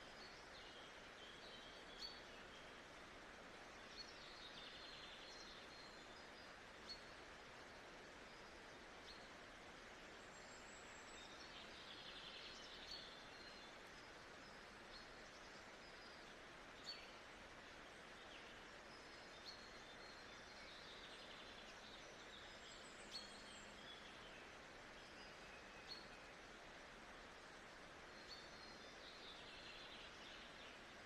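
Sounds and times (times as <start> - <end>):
soft steady hiss: 0.0 - 31.0.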